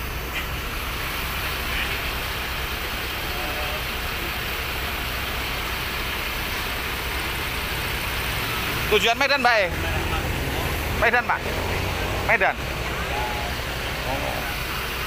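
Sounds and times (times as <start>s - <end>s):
traffic hiss: 0.0s - 15.0s
vehicle engine rumbling: 0.0s - 15.0s.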